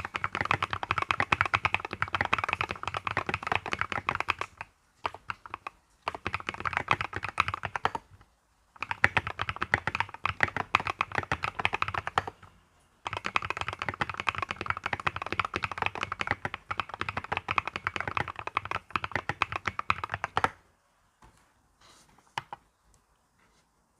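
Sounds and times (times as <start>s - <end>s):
mechanical keyboard typing: 0.0s - 8.2s, 8.8s - 20.6s.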